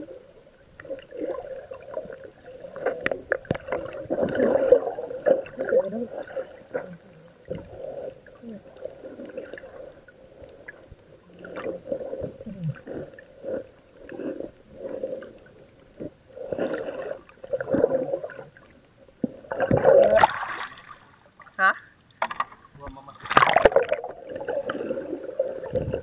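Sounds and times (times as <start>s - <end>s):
muffled underwater water swishing: 0.0s - 26.0s.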